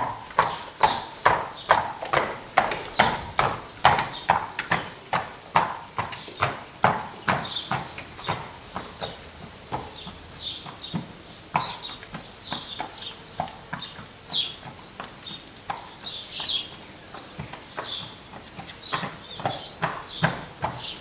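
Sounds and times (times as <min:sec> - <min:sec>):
horse hooves clopping on concrete: 0:00.0 - 0:21.0
small birds chirping: 0:00.0 - 0:21.0.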